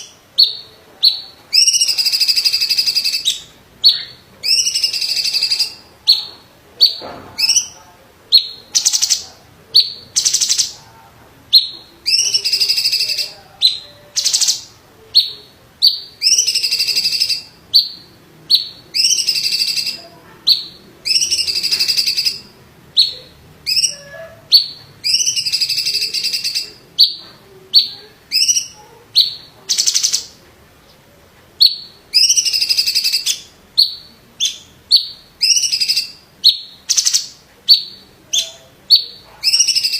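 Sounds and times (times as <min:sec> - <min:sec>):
bird singing high chips: 0:00.0 - 0:07.8, 0:11.5 - 0:30.4, 0:31.6 - 0:39.9.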